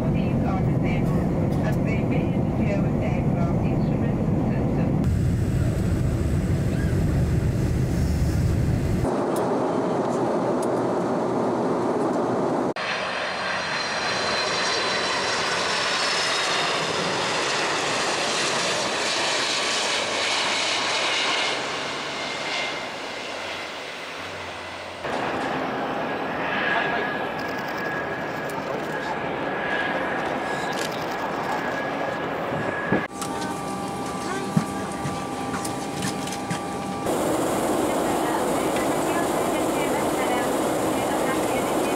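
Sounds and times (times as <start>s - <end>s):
jet roar inside airliner cabin: 0.0s - 28.8s, 29.8s - 41.9s
jet engines whistling whine: 0.0s - 41.9s
jet plane passing low: 0.0s - 41.9s.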